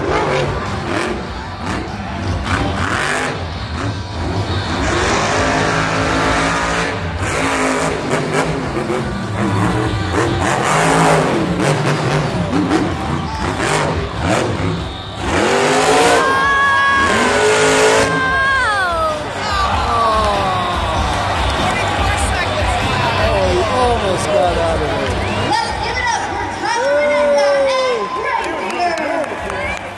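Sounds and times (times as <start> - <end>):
monster truck engine revving: 0.0 - 26.8.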